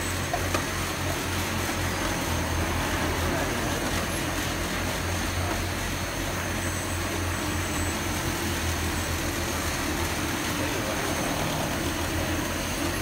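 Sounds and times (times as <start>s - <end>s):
machine hum and whir: 0.0s - 13.0s.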